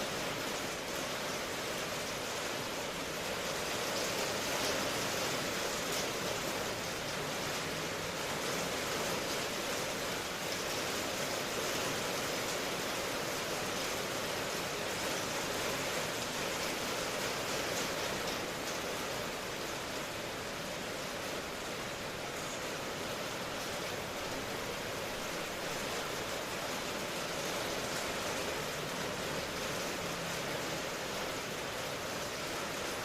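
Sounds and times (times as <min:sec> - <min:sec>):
steady rain pattering: 0:00.0 - 0:33.0.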